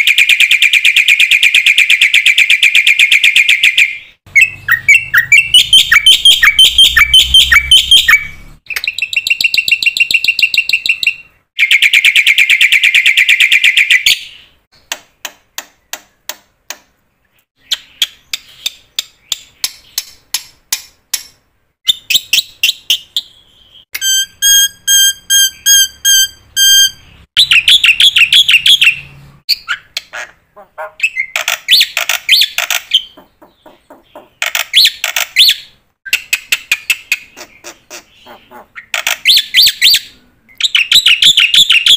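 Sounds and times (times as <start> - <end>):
bird chirps and trills: 0.0 - 14.9, 21.8 - 41.9.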